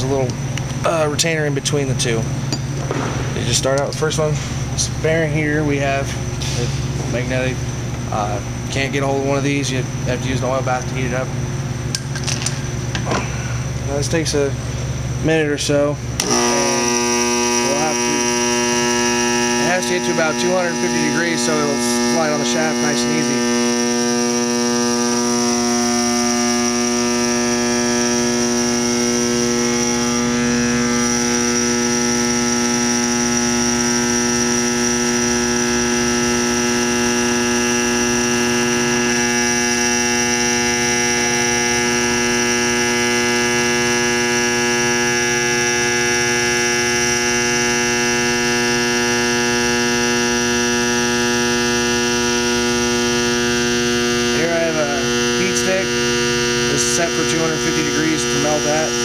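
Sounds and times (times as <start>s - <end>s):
induction heater electrical buzz: 0.0s - 59.0s.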